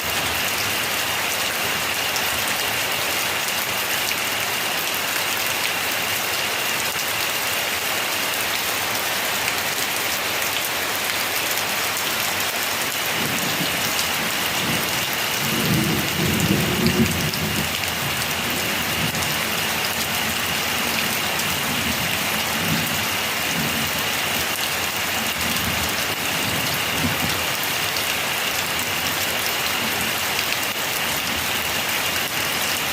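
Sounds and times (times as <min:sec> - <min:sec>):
rain falling with a hiss: 0:00.0 - 0:32.9.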